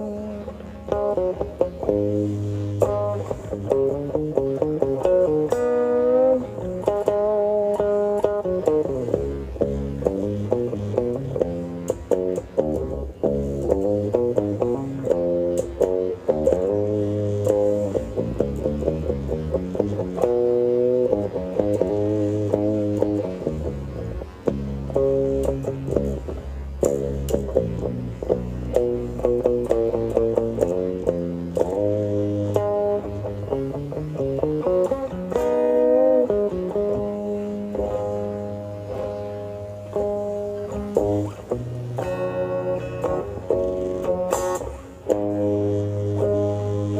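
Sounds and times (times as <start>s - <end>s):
bass: 0.0s - 46.9s
plucked guitar melody: 0.0s - 46.9s.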